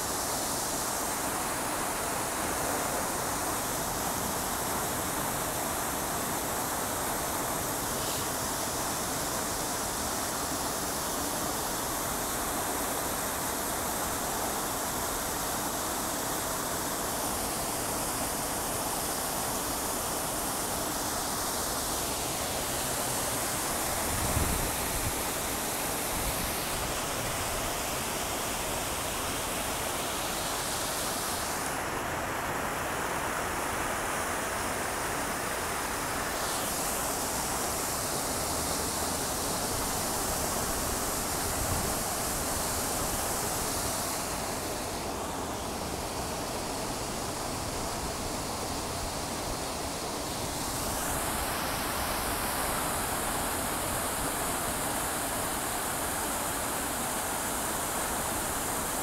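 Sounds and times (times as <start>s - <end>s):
fountain water splashing: 0.0s - 59.0s.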